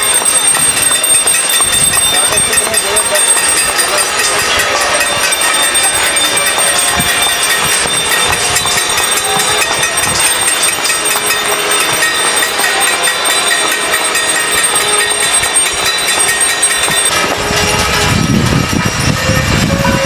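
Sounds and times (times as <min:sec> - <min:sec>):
crowd clapping: 0:00.0 - 0:17.2
steady ringing tones: 0:00.0 - 0:20.0.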